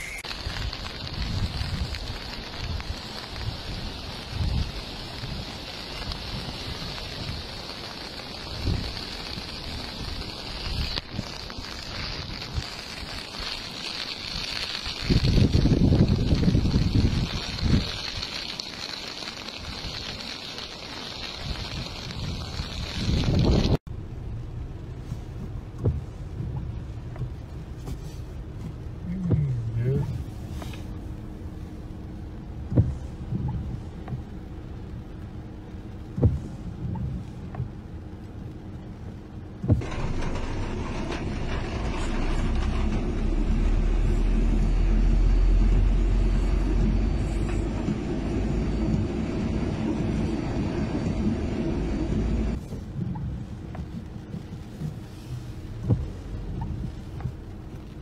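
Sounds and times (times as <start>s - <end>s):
car engine and road noise: 0.0s - 58.0s
rushing water with deep rumble: 0.2s - 58.0s.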